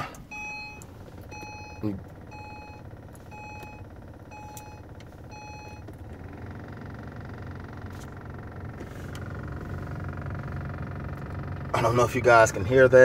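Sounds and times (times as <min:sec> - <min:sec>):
car warning chime beeping: 0:00.0 - 0:11.3.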